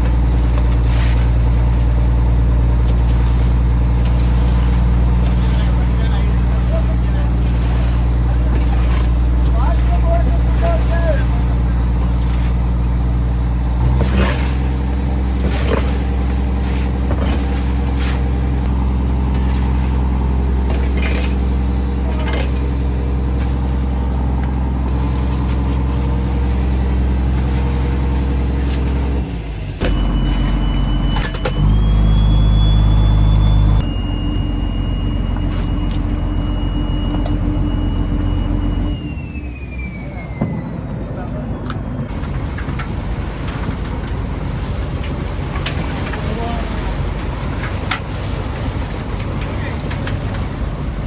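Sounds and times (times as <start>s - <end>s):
diesel engine with high whine: 0.0s - 51.0s.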